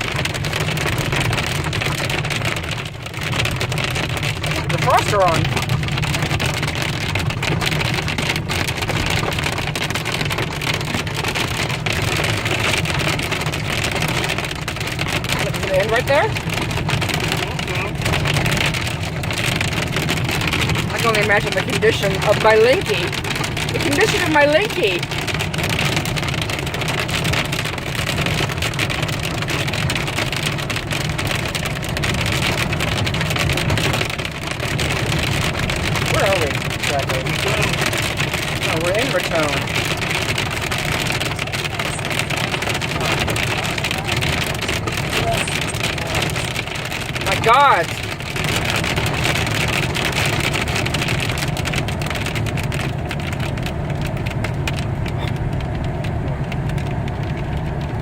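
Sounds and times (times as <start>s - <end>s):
hail pelting a car: 0.0s - 58.0s
low road rumble: 0.0s - 58.0s.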